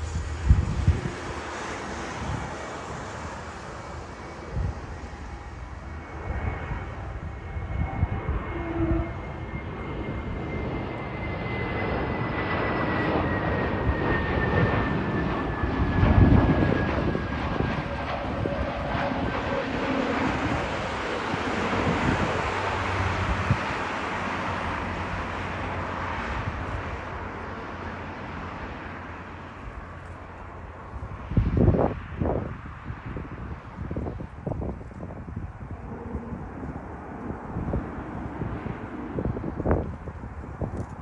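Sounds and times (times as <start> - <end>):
high fan whine: 0.0 - 41.0
jet engines roaring: 0.0 - 41.0
wind buffeting microphone: 0.0 - 41.0.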